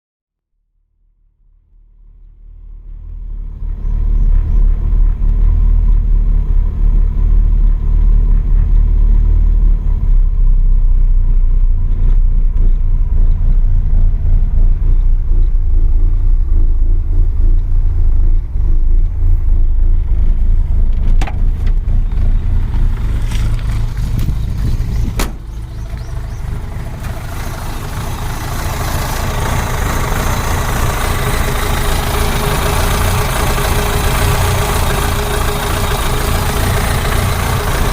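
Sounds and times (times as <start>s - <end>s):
car engine low rumble: 0.8s - 37.9s.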